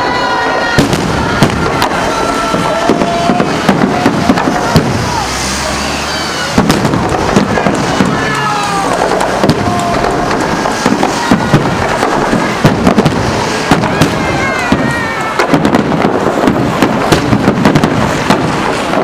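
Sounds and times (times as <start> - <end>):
fireworks bangs and crackling: 0.0 - 19.0
people's voices: 0.0 - 19.0.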